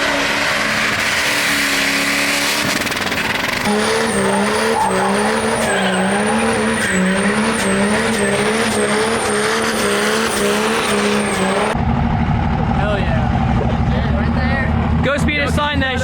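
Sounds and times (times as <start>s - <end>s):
spinning tires rushing: 0.0s - 16.0s
truck engine revving hard: 0.0s - 16.0s.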